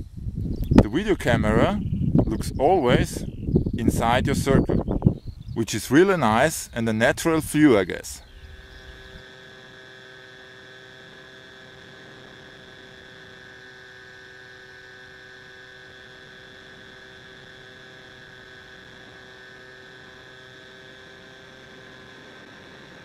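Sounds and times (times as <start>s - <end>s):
steady multi-tone hum: 0.0s - 23.0s.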